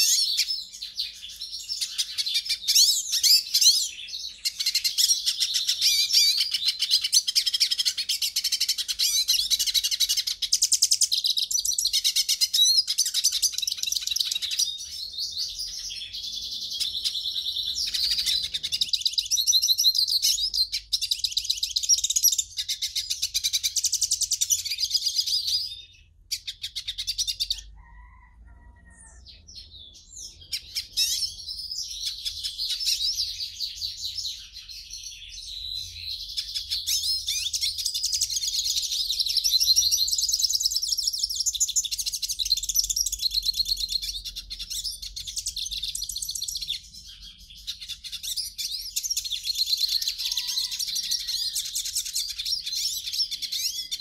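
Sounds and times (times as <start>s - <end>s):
goldfinch singing: 0.0s - 27.7s, 29.3s - 54.0s.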